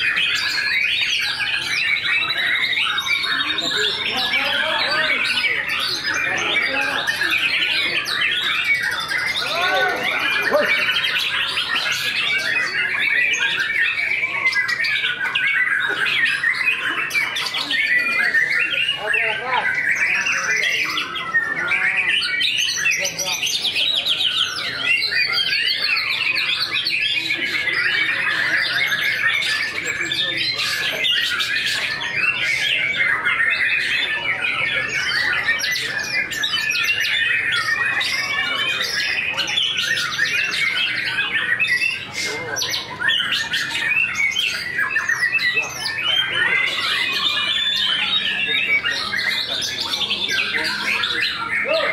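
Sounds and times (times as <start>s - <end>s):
birds singing warbled phrases: 0.0s - 51.9s
songbird trilling and whistling: 0.0s - 51.9s.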